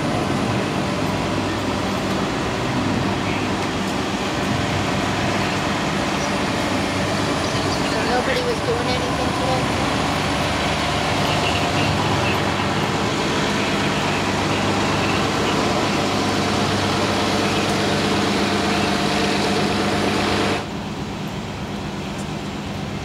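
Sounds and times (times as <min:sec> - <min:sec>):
buses idling: 0:00.0 - 0:23.0.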